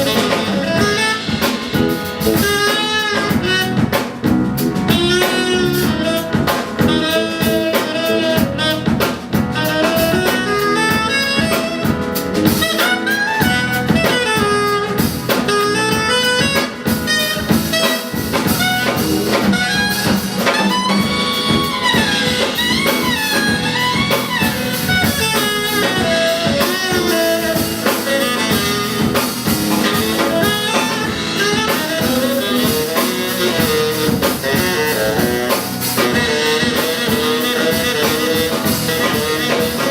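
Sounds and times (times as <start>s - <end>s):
bass: 0.0s - 39.9s
drum kit: 0.0s - 39.9s
piano: 0.0s - 39.9s
saxophone solo: 0.0s - 39.9s.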